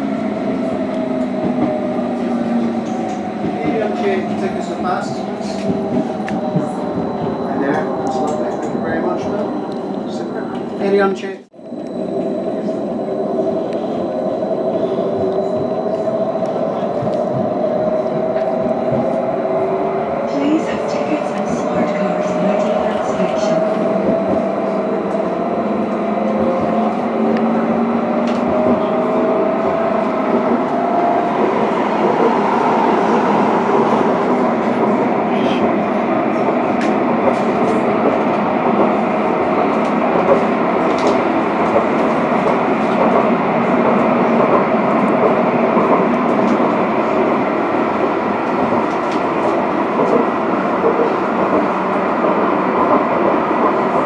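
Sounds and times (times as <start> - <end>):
tram wheels rumbling on rail: 0.0 - 54.0.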